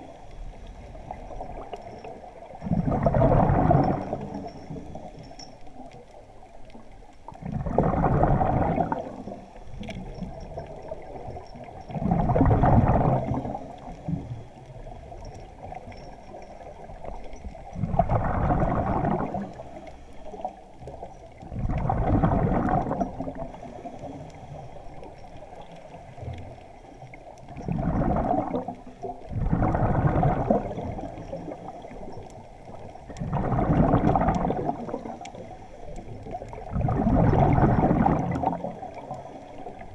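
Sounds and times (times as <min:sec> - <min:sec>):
quiet water noise: 0:00.0 - 0:39.9
underwater breath bubbling: 0:02.5 - 0:05.6, 0:07.3 - 0:16.1, 0:17.7 - 0:26.4, 0:27.5 - 0:39.9.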